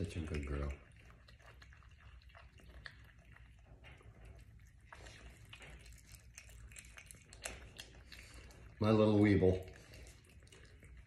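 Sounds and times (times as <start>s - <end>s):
animal chewing and smacking: 0.0s - 11.0s.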